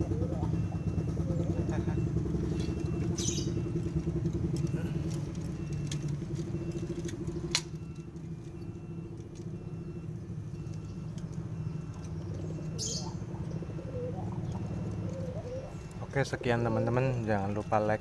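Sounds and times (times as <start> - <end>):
motor engine droning: 0.0 - 18.0.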